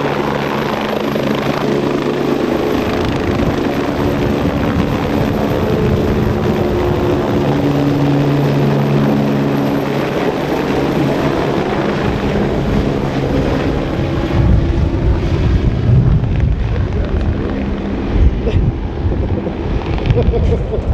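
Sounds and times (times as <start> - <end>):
helicopter turbine and rotor: 0.0 - 20.9
wind buffeting microphone: 0.0 - 20.9.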